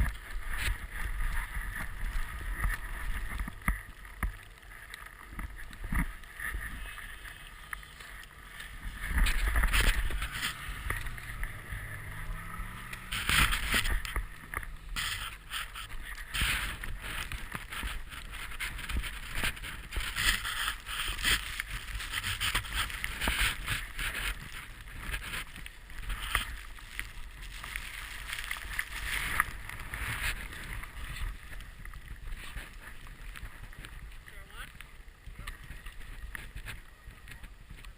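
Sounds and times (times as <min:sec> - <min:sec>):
snowboard sliding on snow: 0:00.0 - 0:37.8.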